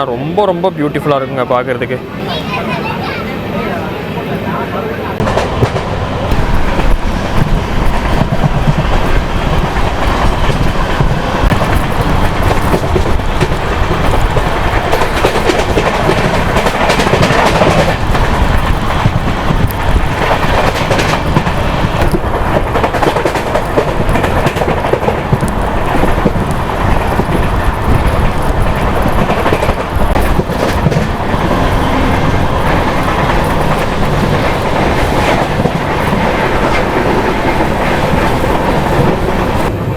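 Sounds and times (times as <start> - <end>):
train wheels rumbling on rails: 1.8 - 39.9
rail joint clatter: 5.2 - 39.8.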